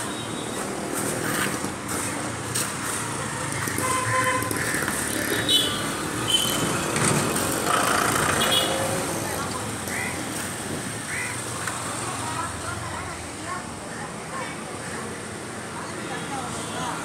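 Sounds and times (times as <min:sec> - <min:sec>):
traffic passing close by: 0:00.0 - 0:17.0.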